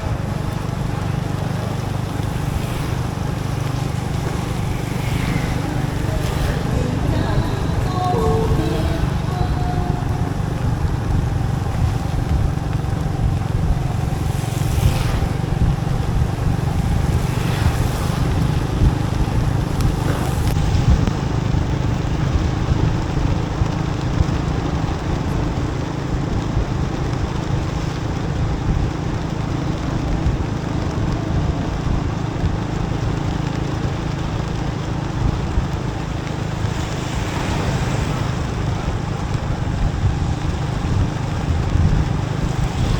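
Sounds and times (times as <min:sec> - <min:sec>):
motorbike engine running: 0:00.0 - 0:42.9
wind and tyre noise: 0:00.0 - 0:42.9.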